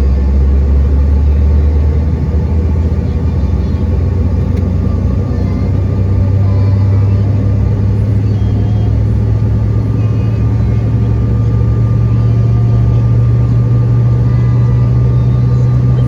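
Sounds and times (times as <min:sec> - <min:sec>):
jet engines droning in cabin: 0:00.0 - 0:16.0.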